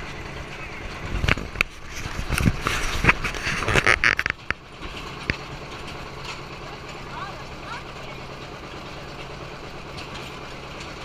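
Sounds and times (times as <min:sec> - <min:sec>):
hay wagon rattling and clanking: 0:00.0 - 0:11.0
tractor engine drone: 0:00.0 - 0:11.0.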